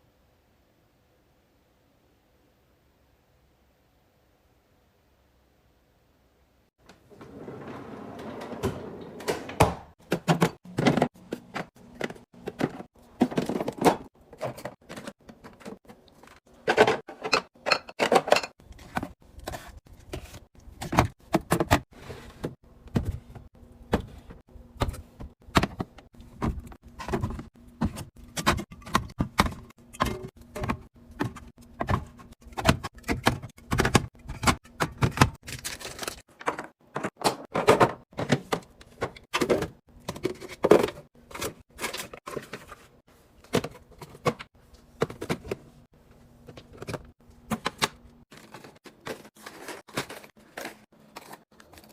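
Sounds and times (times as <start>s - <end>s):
containers clicking and thudding: 9.6s - 51.9s.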